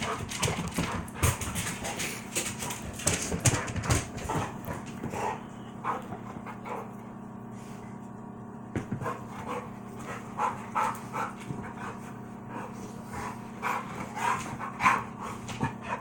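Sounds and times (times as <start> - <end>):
dogs panting: 0.0 - 7.1, 8.9 - 16.0.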